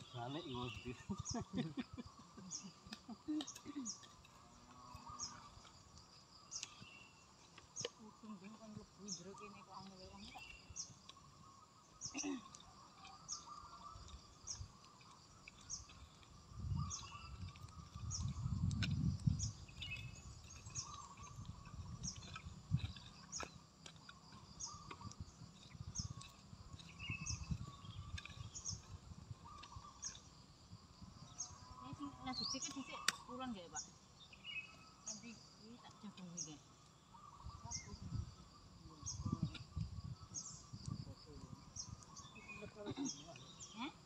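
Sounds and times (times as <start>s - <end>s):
bird chirping: 0.0s - 44.0s
insects: 0.0s - 44.0s.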